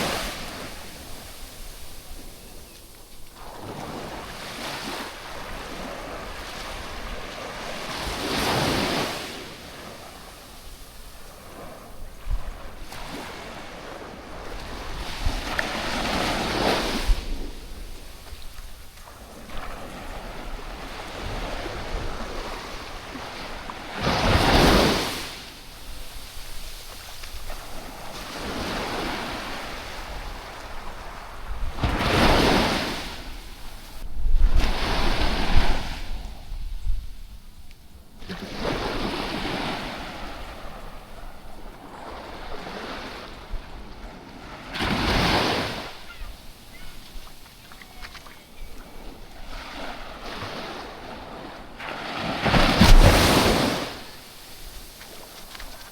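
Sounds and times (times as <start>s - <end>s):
steady hiss of the sea: 0.0s - 55.9s
waves breaking on sandy beach: 0.0s - 55.9s.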